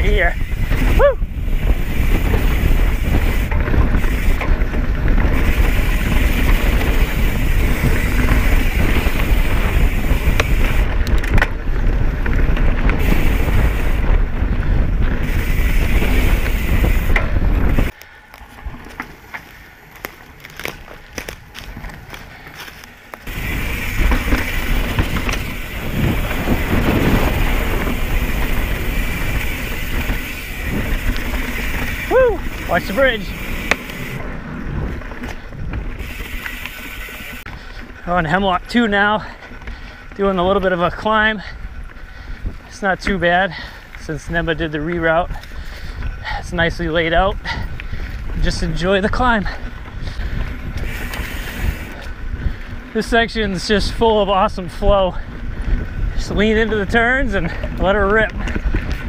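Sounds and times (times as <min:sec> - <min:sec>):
wind on microphone: 0:00.0 - 0:38.0, 0:39.4 - 0:42.8, 0:43.6 - 0:59.0
bike tyre and trail rattle: 0:00.0 - 0:59.0.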